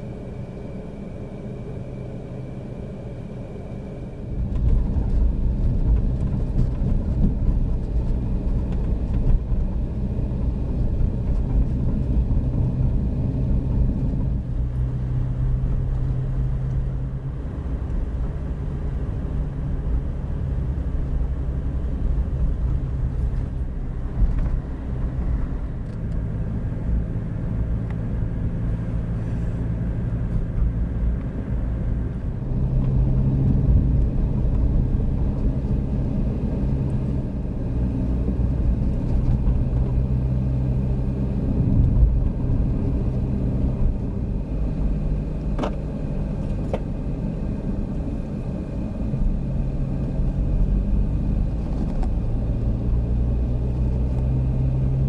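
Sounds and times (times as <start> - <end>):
car engine and road rumble: 0.0 - 55.0
low engine hum: 0.0 - 55.0.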